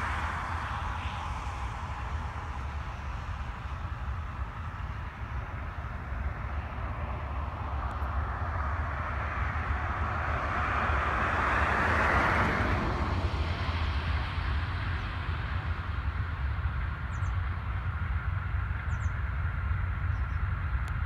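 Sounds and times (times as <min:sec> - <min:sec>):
constant low rumble: 0:00.0 - 0:21.0.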